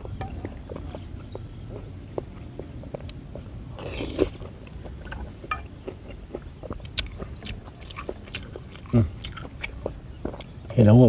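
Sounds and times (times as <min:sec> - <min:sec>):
wet chewing: 0:00.3 - 0:10.6.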